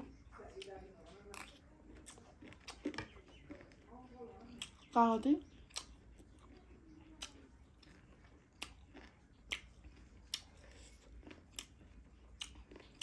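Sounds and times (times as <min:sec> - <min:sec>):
chewing close to microphone: 0:00.0 - 0:13.0.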